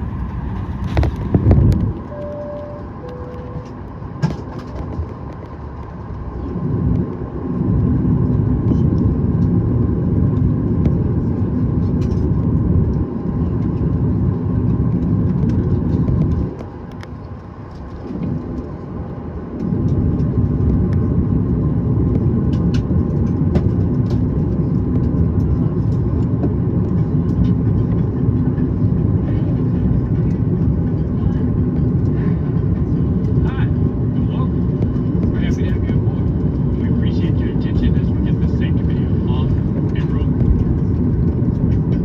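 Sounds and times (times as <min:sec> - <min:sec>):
jet engines rumbling in cabin: 0:00.0 - 0:42.0.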